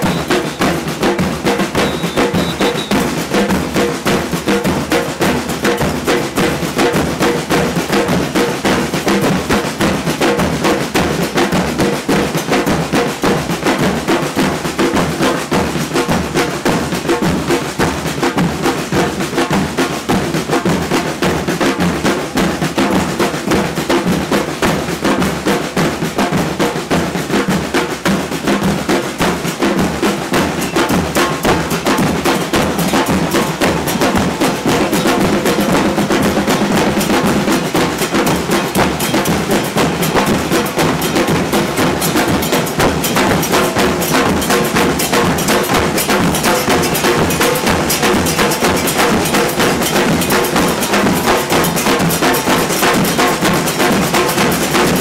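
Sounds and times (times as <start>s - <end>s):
bass drums and snare drums: 0.0s - 55.0s.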